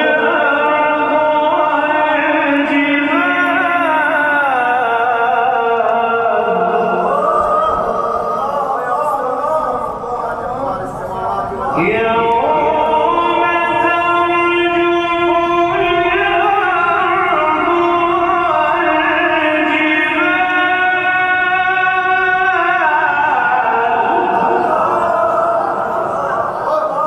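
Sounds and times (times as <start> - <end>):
person reciting in melodic chant: 0.0 - 27.0.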